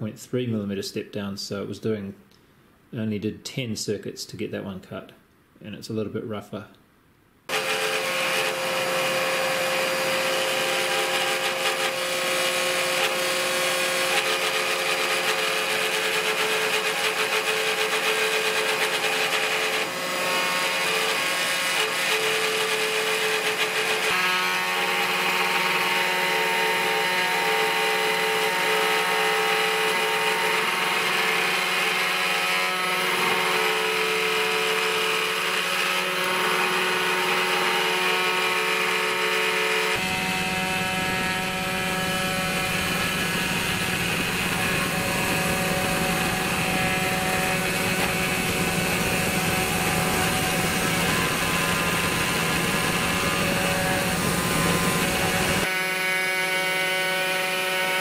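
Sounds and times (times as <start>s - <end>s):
spindle whine cutting metal: 7.5s - 58.0s.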